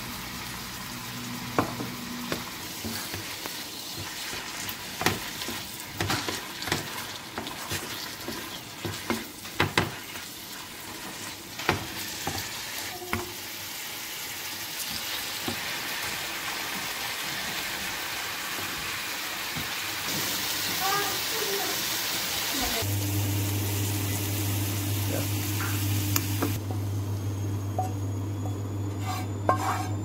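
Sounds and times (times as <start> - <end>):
leaves sizzling in frying pan: 0.0 - 27.9.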